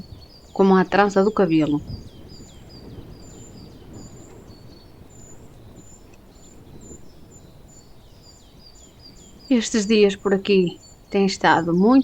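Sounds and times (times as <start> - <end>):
small bird chirping: 0.0 - 12.0
wind on microphone: 0.0 - 12.0.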